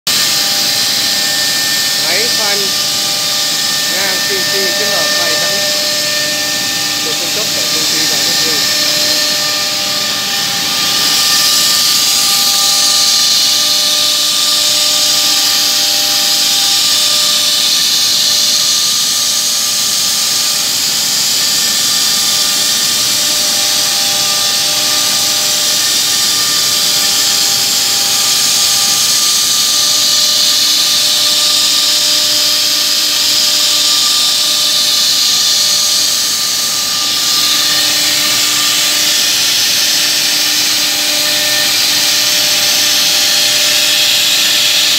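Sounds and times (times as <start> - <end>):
drilling machine hiss and whine: 0.1 - 44.9.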